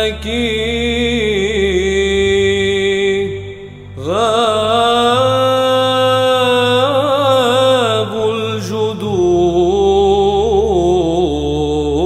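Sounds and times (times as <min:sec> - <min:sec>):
person singing a hymn: 0:00.0 - 0:12.0.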